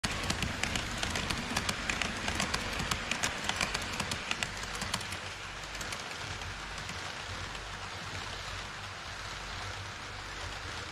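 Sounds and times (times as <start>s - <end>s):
model train rolling: 0.0s - 10.9s
model train wheels clicking: 0.0s - 10.9s.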